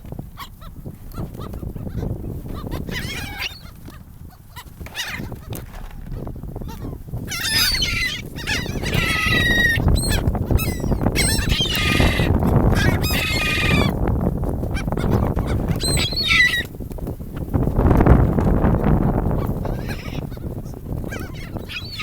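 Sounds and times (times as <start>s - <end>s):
low background rumble: 0.0s - 22.0s
gulls squawking: 0.4s - 14.0s, 14.6s - 16.8s, 18.7s - 22.0s.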